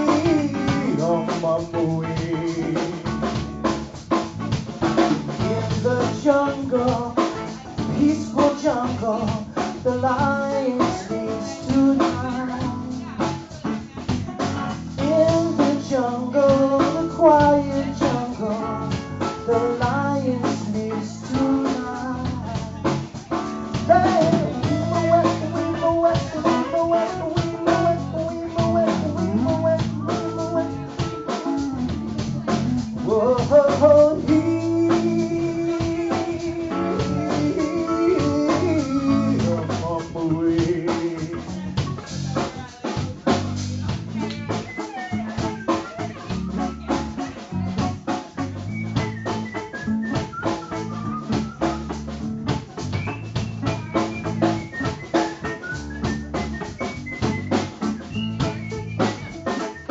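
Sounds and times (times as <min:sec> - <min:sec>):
drum kit: 0:00.0 - 0:59.9
electric guitar melody: 0:00.0 - 0:59.9.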